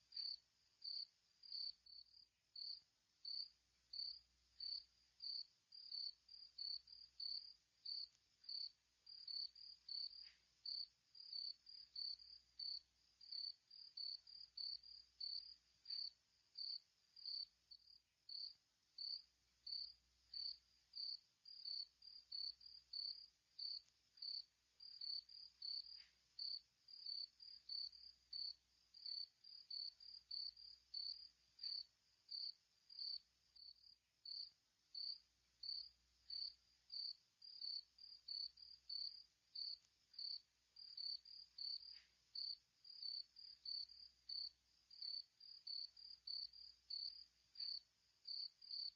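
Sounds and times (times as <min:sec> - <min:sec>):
insect chirping: 0:00.1 - 0:48.9.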